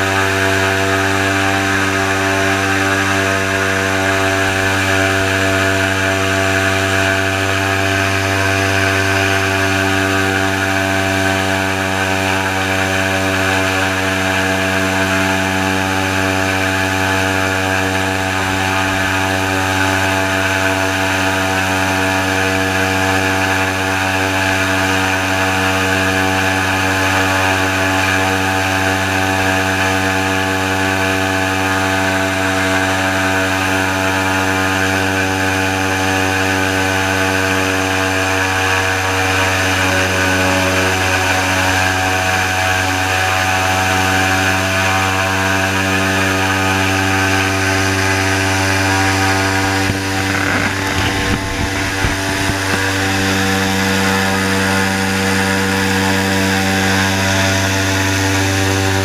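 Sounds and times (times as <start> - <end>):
airboat engine and propeller drone: 0.0 - 59.0.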